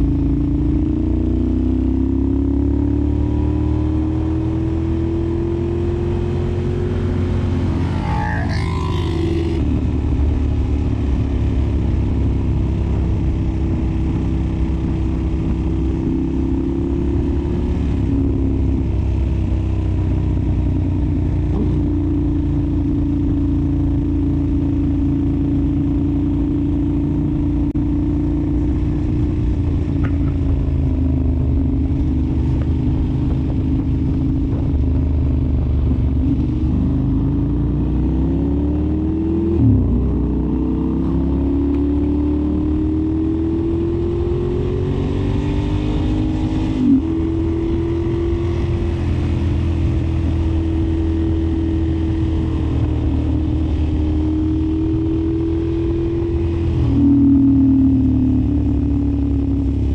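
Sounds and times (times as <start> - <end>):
motorcycle engine running loud: 0.0 - 59.9.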